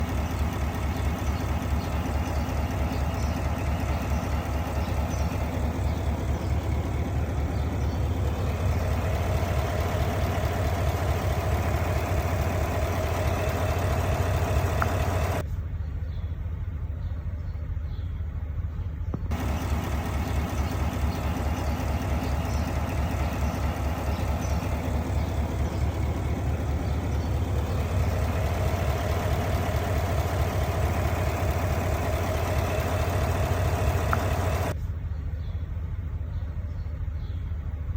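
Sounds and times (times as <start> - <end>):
engine idling with misfire: 0.0 - 15.5, 18.6 - 35.2.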